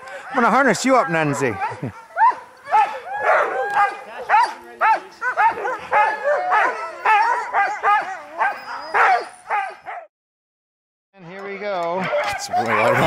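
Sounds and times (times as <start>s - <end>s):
huskies barking and yelping: 0.0s - 10.1s, 11.6s - 13.0s.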